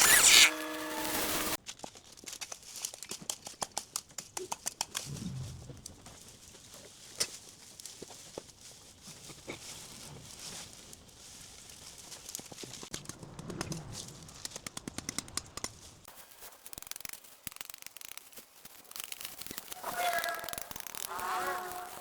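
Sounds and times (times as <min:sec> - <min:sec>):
dry vines crackling and snapping: 0:00.0 - 0:22.0.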